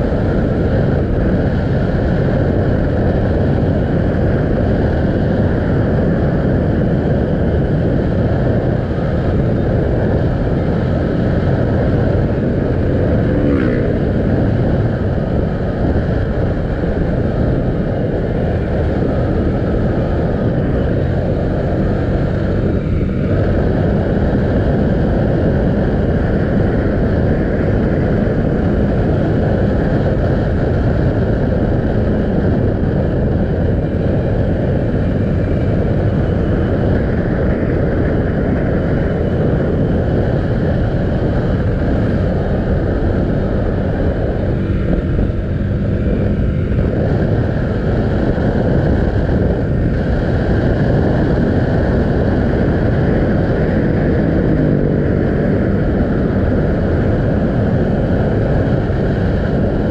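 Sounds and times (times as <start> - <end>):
motorcycle engine running: 0.0 - 59.9
wind rush over microphone: 0.0 - 59.9.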